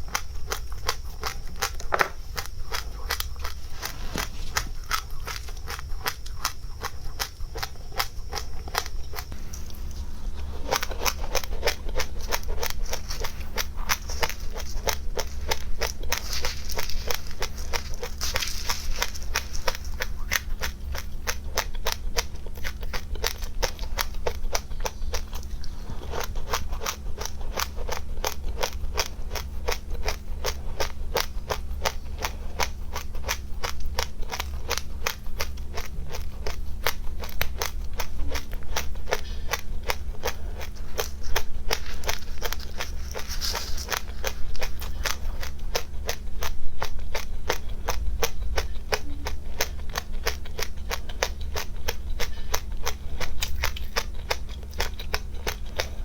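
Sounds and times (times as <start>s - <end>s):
crunchy seeds being chewed: 0.0s - 56.0s.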